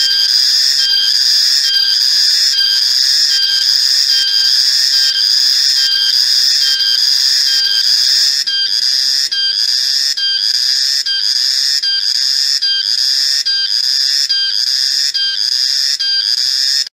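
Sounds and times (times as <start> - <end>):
cicada clicking rattle: 0.0 - 16.8
cicada buzzing: 0.0 - 16.9.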